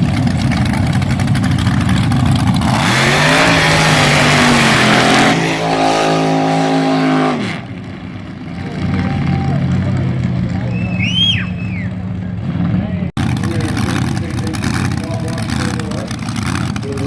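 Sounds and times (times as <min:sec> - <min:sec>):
dragster engine revving: 0:00.0 - 0:17.0.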